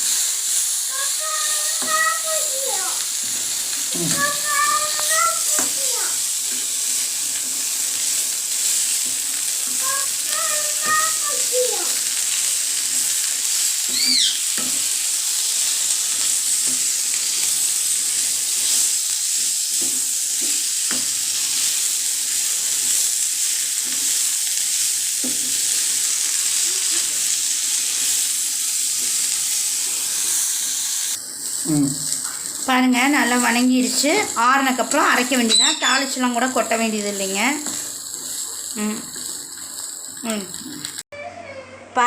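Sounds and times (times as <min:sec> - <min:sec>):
leaves sizzling in hot oil: 0:00.0 - 0:41.1.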